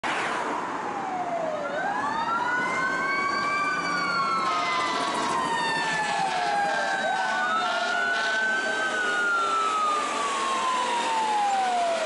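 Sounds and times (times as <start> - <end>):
road traffic rumble: 0.0 - 12.0
emergency sirens wailing: 0.5 - 12.0.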